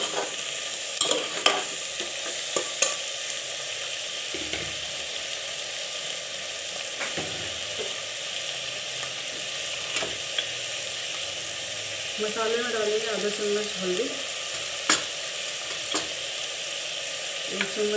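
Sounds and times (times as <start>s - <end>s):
vegetables sizzling in oil: 0.0s - 17.9s.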